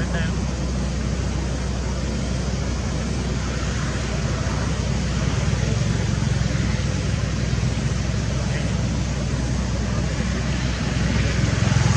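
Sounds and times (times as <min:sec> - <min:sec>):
low rumble: 0:00.0 - 0:11.9.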